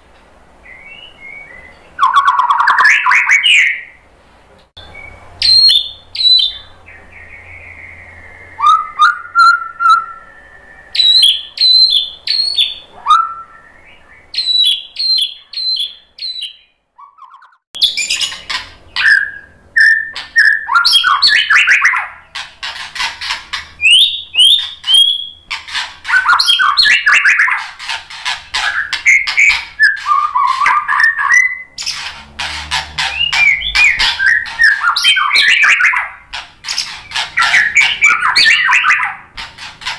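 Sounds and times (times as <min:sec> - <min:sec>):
bird singing whistled phrases: 0:00.6 - 0:04.0, 0:04.8 - 0:22.2, 0:23.8 - 0:25.4, 0:26.1 - 0:27.6, 0:28.6 - 0:31.8, 0:33.1 - 0:36.2, 0:36.8 - 0:39.2.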